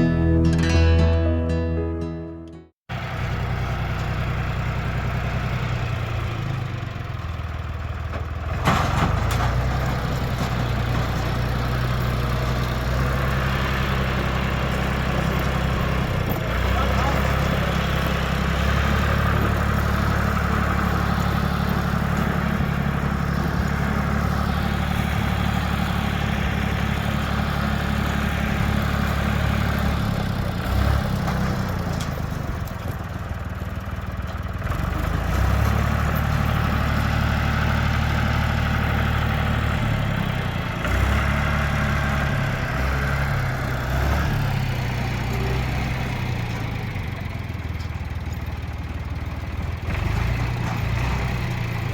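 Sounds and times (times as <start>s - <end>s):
engine running: 2.9s - 51.9s.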